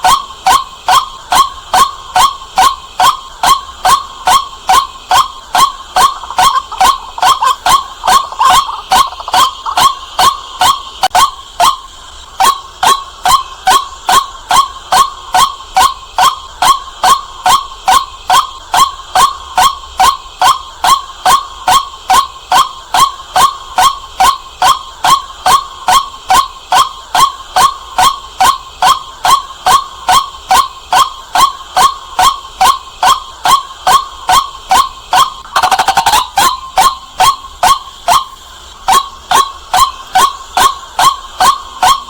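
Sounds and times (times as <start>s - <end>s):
waterhen kwak call: 0.0s - 42.0s.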